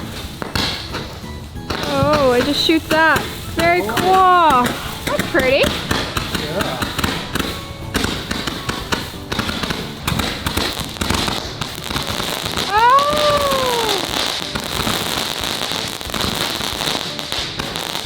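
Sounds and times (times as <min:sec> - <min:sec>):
firework whistle: 0:00.0 - 0:18.0
fireworks popping and crackling: 0:00.0 - 0:18.0.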